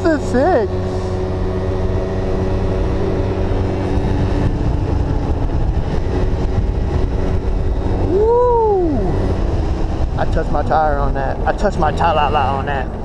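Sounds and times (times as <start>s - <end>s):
road rumble: 0.0s - 13.0s
wind: 0.0s - 13.0s.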